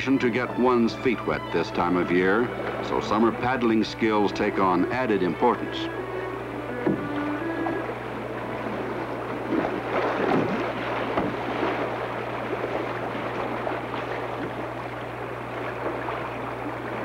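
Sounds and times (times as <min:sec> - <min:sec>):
paddle splashes: 0:00.0 - 0:17.0
rushing river water: 0:00.0 - 0:17.0.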